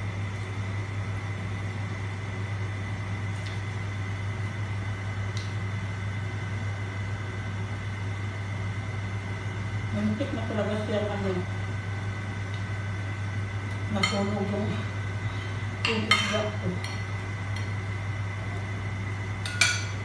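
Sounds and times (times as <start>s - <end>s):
low machine hum with whine: 0.0s - 20.0s.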